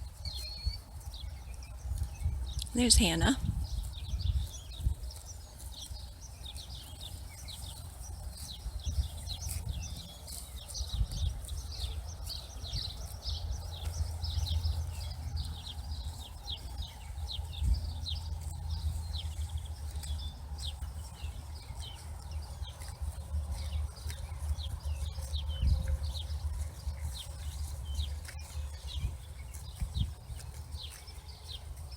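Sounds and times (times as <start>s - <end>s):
swallows twittering: 0.0s - 31.7s.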